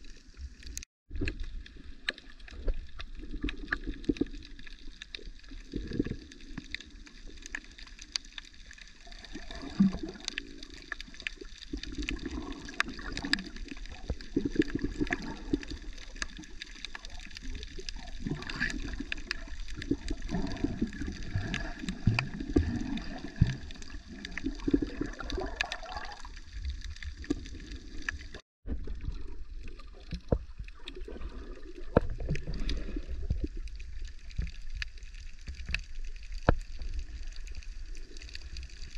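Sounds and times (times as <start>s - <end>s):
muffled underwater water sloshing: 0.0s - 38.9s.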